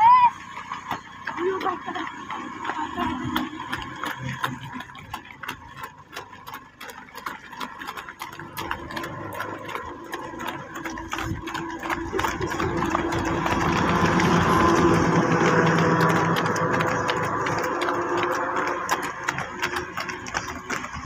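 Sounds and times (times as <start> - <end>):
small engine rattling: 0.0 - 21.0.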